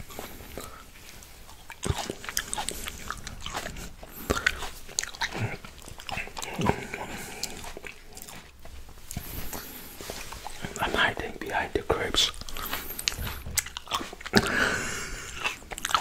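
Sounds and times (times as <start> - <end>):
biting and chewing grapes: 0.0 - 16.0.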